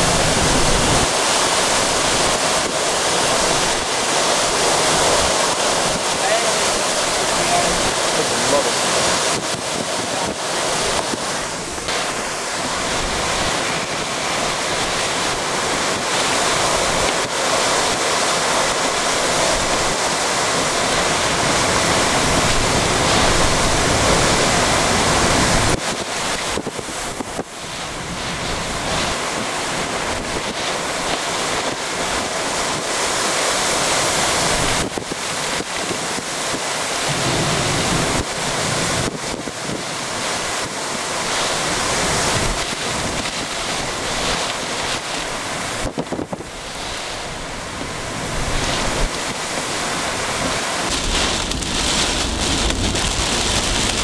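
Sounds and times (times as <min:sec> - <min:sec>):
heavy driving rain: 0:00.0 - 0:54.0
high winds: 0:00.0 - 0:54.0.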